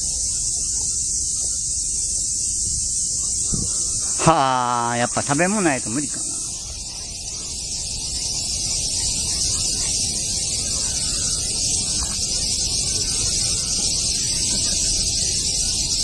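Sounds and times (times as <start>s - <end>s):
cicadas chorus: 0.0s - 16.0s.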